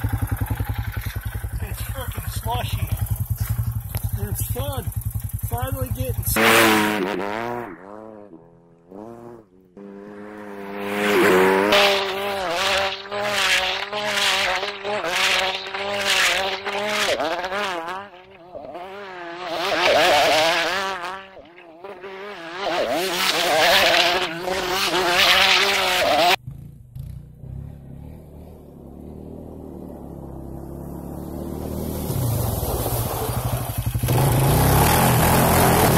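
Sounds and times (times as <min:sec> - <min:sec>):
atv engine revving: 0:00.0 - 0:35.9.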